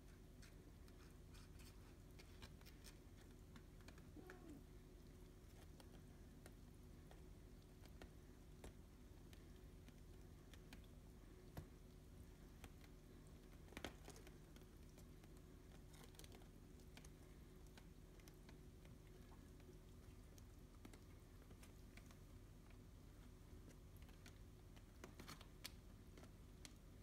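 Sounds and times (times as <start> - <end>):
faint room hum: 0.0 - 27.0.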